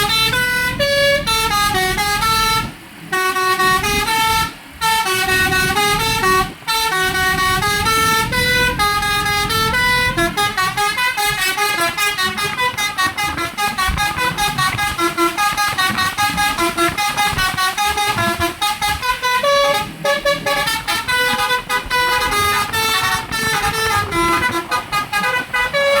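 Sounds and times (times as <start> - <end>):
engine and road rumble: 0.0 - 26.0
multi-tone air horn playing a tune: 0.0 - 26.0.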